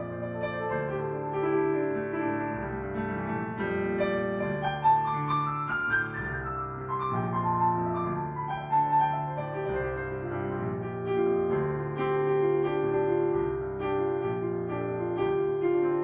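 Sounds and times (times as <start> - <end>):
slow blues piano: 0.0 - 16.0.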